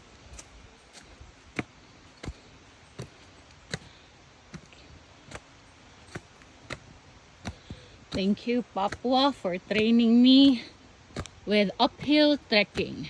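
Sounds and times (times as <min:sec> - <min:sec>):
footsteps on walking trail: 0:00.0 - 0:13.0.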